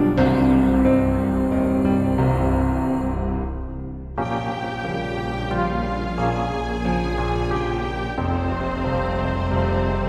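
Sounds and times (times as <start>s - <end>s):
background music of held chords: 0.0s - 10.0s.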